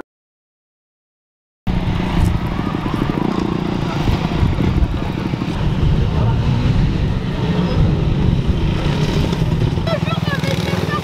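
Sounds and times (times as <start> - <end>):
motorcycle engine rumbling: 1.7 - 11.0.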